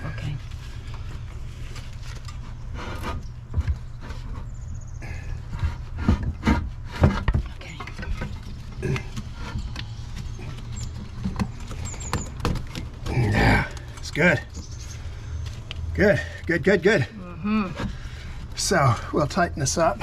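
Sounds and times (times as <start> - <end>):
steady low hum: 0.0 - 20.0
parts knocking and clunking: 2.2 - 19.4.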